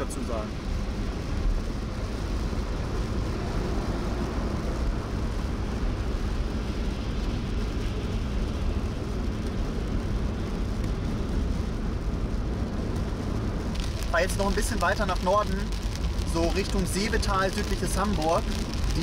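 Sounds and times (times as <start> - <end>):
car road noise: 0.0 - 19.0
tyres on wet asphalt: 0.0 - 19.0.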